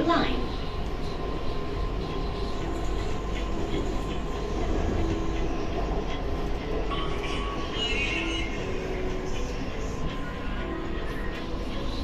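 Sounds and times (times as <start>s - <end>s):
faint whining tones: 0.0s - 12.0s
metro train rumble: 0.0s - 12.0s.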